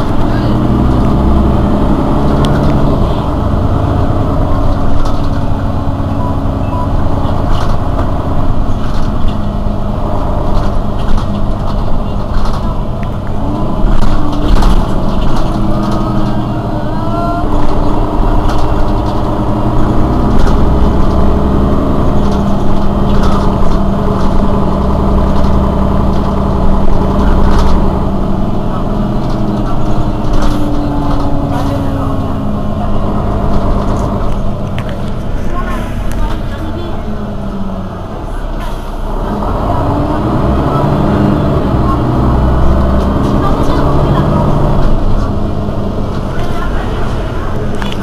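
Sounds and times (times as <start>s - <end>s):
bus diesel engine idling: 0.0s - 48.0s.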